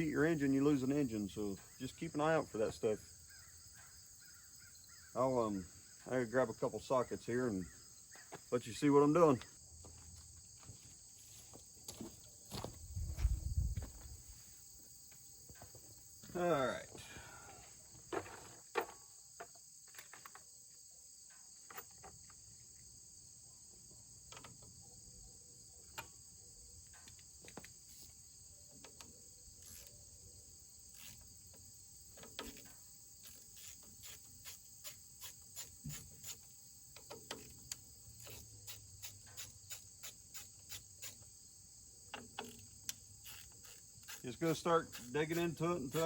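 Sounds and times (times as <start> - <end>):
crickets chirring: 0.0 - 46.0.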